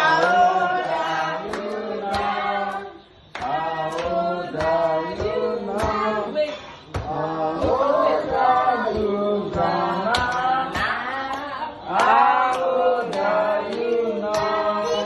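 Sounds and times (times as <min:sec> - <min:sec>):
hands clapping along: 0:00.0 - 0:06.2, 0:06.9 - 0:15.0
group singing a party song: 0:00.0 - 0:15.0.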